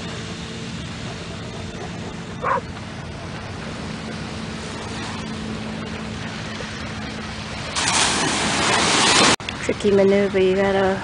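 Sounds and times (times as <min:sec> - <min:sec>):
tractor engine running: 0:00.0 - 0:09.0
surf washing: 0:00.0 - 0:11.0.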